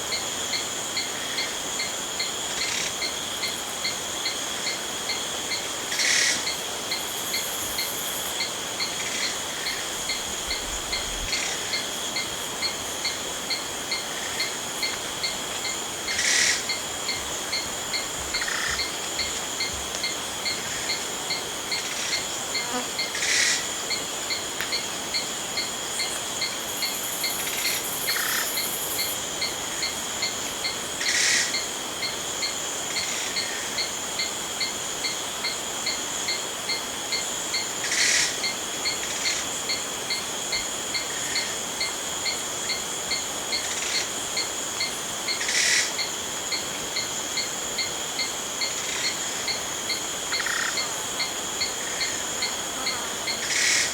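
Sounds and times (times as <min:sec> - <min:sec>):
crickets chirping: 0:00.0 - 0:53.9
high-pitched insect drone: 0:00.0 - 0:53.9.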